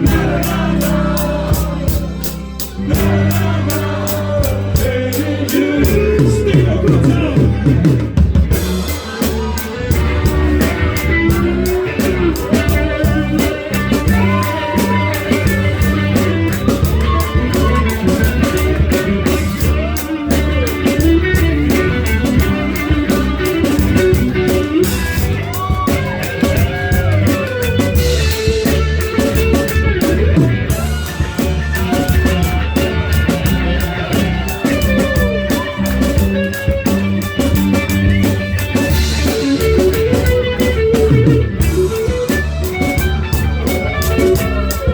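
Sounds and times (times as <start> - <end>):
bass: 0.0 - 44.9
drum kit steady beat: 0.0 - 44.9
lead guitar with bent notes: 0.0 - 44.9.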